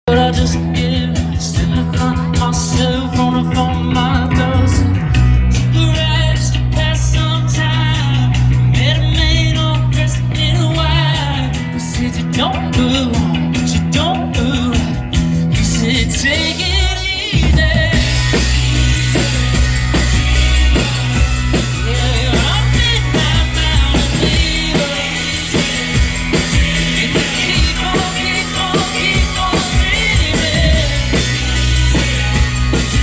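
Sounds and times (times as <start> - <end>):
live rock band: 0.0 - 33.0
person singing: 0.0 - 33.0.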